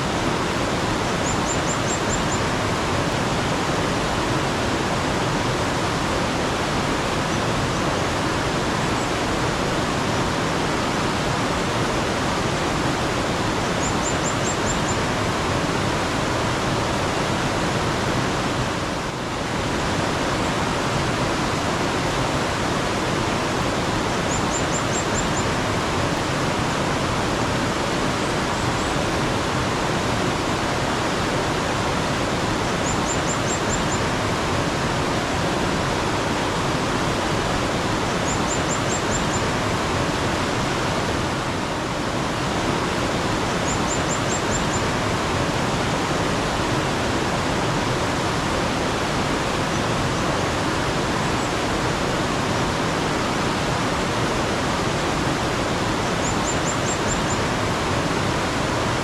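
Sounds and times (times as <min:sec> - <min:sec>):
flowing mountain water: 0:00.0 - 0:59.0.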